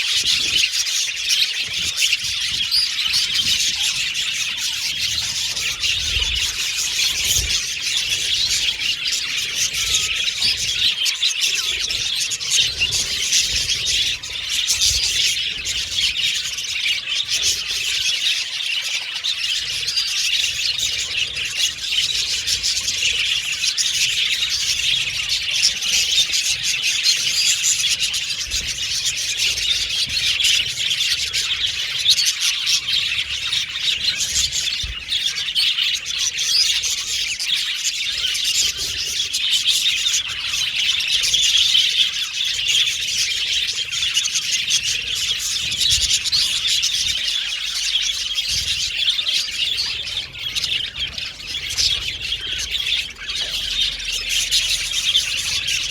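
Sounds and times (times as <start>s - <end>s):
budgerigars chirping: 0.0s - 55.9s.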